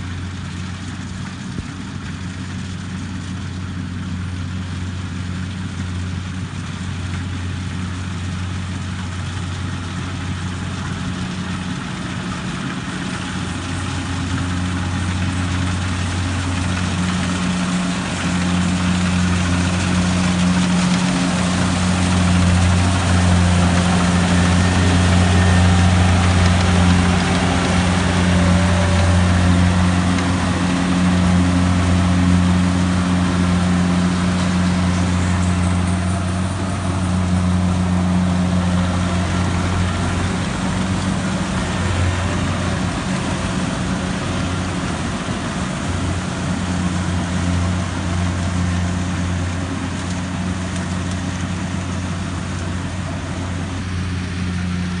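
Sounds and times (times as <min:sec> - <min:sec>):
combine harvester engine: 0:00.0 - 0:55.0
cutting and threshing noise: 0:00.0 - 0:55.0.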